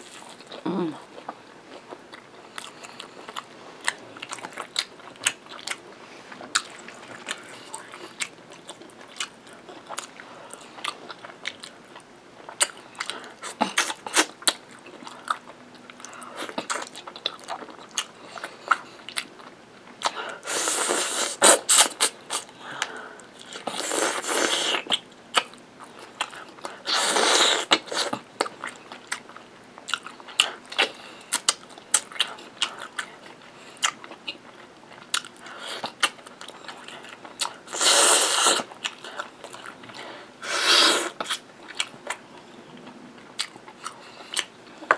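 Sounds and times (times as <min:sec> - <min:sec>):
close-miked chewing: 0:00.0 - 0:44.9.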